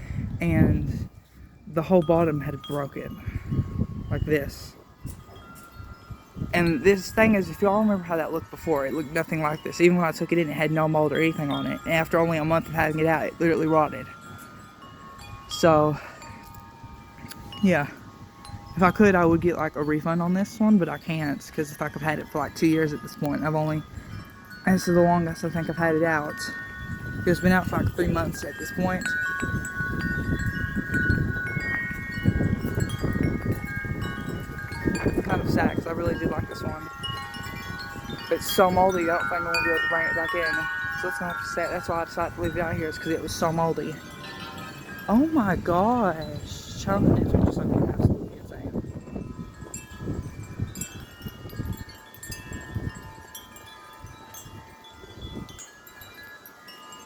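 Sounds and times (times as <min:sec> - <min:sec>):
wind chimes ringing: 0:00.0 - 0:57.0
wind rumble on microphone: 0:00.0 - 0:57.0.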